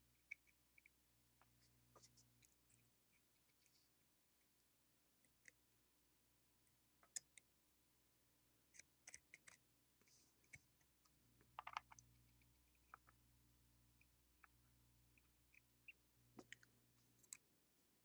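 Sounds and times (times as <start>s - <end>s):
faint clicks and scratches: 0.0s - 5.9s, 6.6s - 7.5s, 8.6s - 18.0s.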